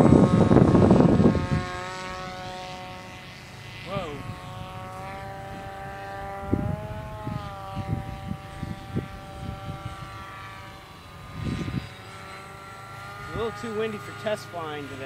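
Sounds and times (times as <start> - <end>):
electric motor and propeller whining: 0.0 - 15.0
wind buffeting microphone: 0.0 - 15.0.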